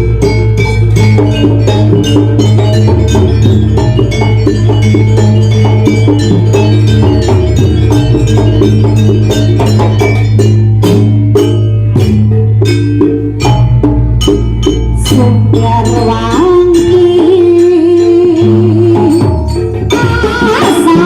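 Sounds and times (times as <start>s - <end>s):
gamelan metal keys and drums: 0.0s - 21.0s
wavering held melody: 0.0s - 21.0s.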